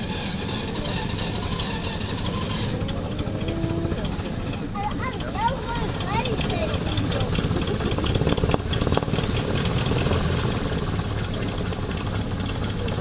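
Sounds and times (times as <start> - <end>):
biplane piston engine running: 0.0 - 13.0.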